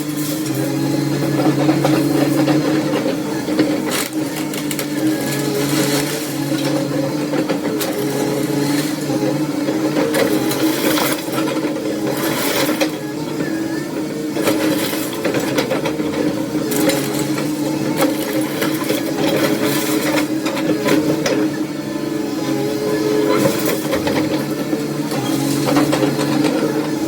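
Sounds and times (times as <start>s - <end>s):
demolition machinery engine: 0.0s - 27.0s.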